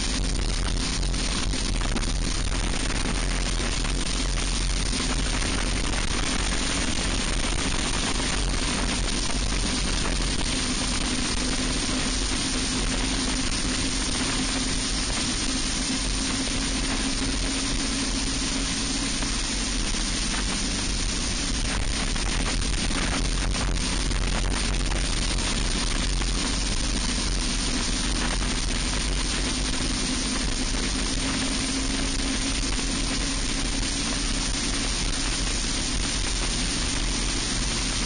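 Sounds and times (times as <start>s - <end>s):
kart engine at high revs: 0.0s - 38.0s
wind and road noise: 0.0s - 38.0s.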